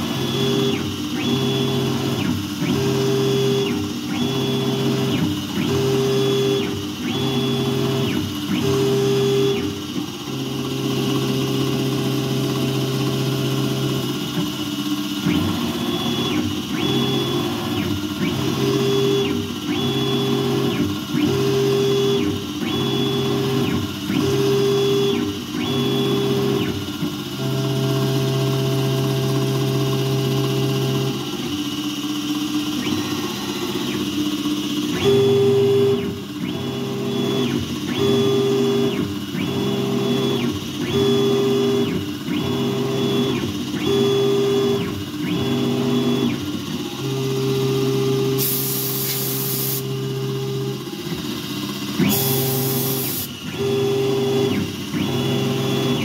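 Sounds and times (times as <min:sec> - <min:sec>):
mill cutting metal: 0:00.0 - 0:56.0.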